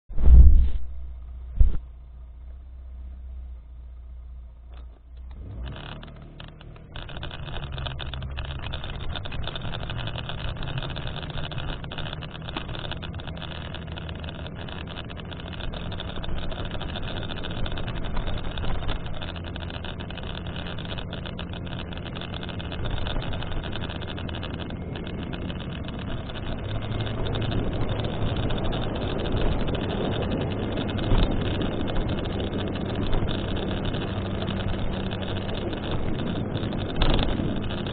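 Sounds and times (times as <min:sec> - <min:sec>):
road noise: 0:00.1 - 0:37.9
vehicle engine hum: 0:00.1 - 0:37.9.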